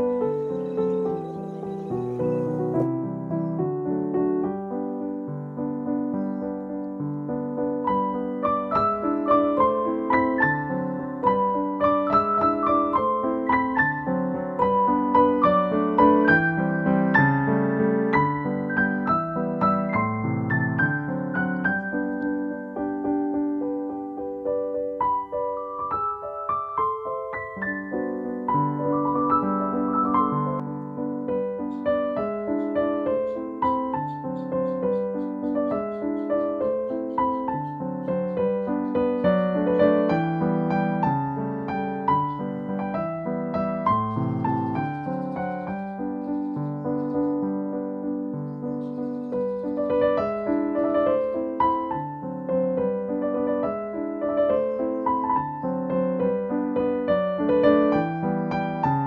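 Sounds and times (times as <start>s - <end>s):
soft piano music: 0.0s - 59.0s.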